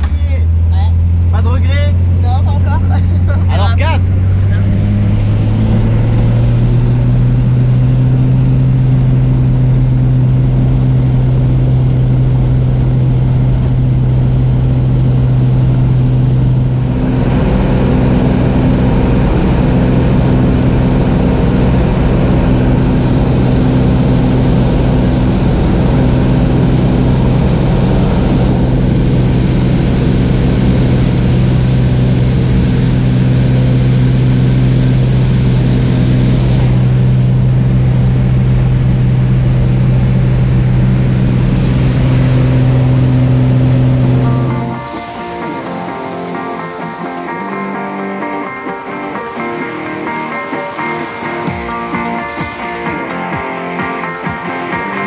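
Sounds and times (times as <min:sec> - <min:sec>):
light aircraft engine drone: 0:00.0 - 0:55.0
rushing air: 0:04.0 - 0:55.0.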